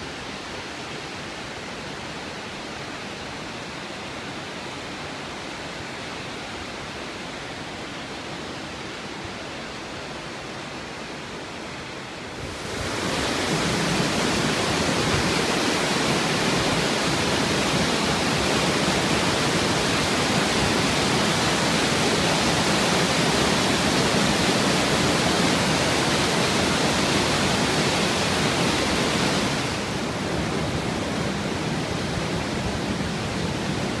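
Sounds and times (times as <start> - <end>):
waterfall and rapids rushing: 0.0 - 34.0.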